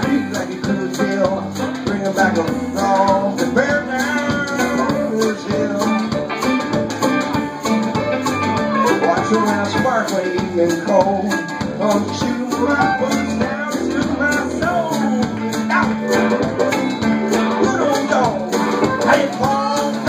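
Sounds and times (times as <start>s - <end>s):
drum kit: 0.0s - 20.0s
electric bass: 0.0s - 20.0s
harmonica wailing: 0.0s - 20.0s
picked banjo: 0.0s - 20.0s.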